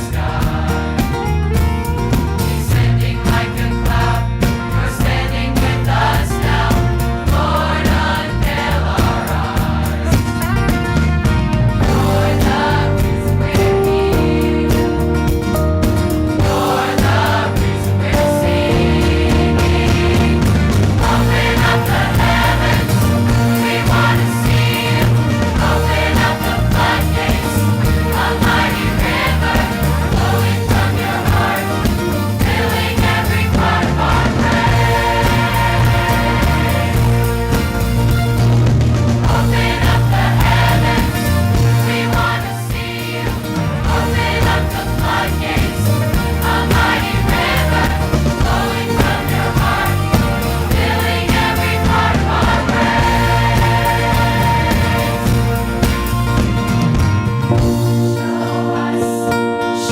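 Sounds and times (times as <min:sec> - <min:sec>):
women's choir singing: 0:00.0 - 0:01.3, 0:02.6 - 0:10.3, 0:11.8 - 0:15.3, 0:16.4 - 0:37.8, 0:39.2 - 0:56.0, 0:58.1 - 0:59.9
band accompaniment with bass: 0:00.0 - 0:59.9.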